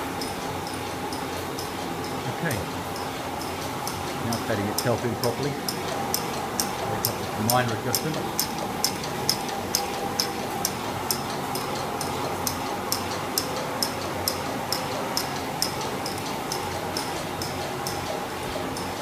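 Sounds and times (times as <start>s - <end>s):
stirling engine ticking: 0.0s - 19.0s.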